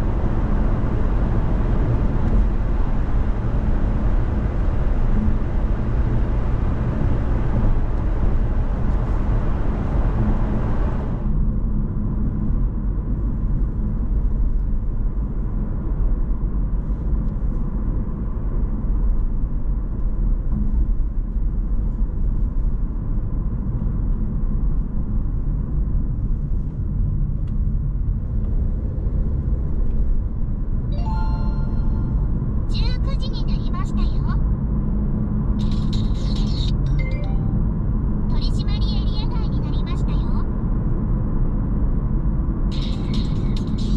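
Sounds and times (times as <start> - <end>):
car road noise from inside cabin: 0.0 - 43.9.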